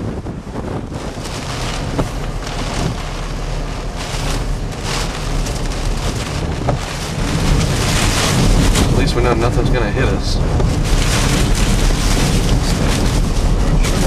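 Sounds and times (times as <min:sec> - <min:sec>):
driving rain: 0:00.0 - 0:14.0
gusty hurricane wind: 0:00.0 - 0:14.0
wind rumbling on microphone: 0:00.0 - 0:14.0.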